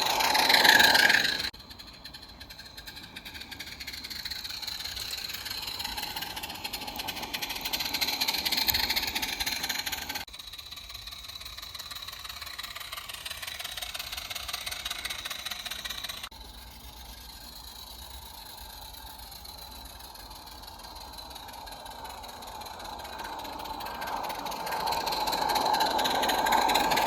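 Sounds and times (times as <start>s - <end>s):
model locomotive clattering: 0.0s - 27.0s.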